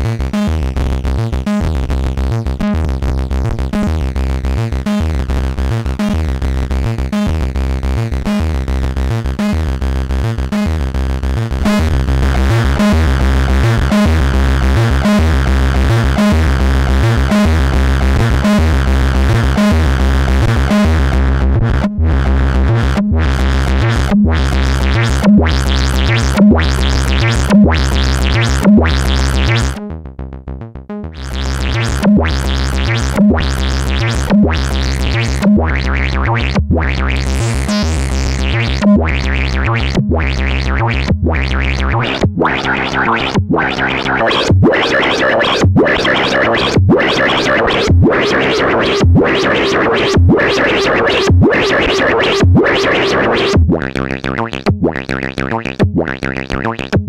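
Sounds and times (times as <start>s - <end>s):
distorted synthesizer bass sequence: 0.0s - 57.0s.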